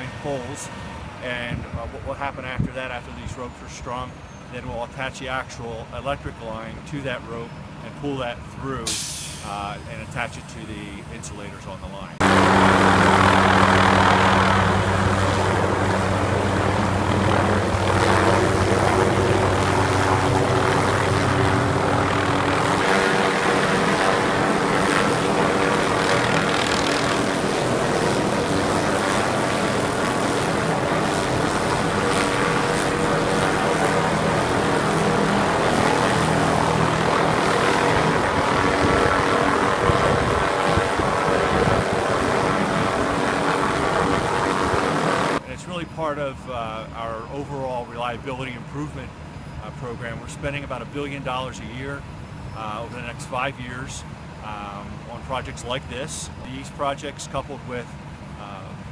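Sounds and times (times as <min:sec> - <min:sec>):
helicopter rotor and engine drone: 0:00.0 - 0:58.9.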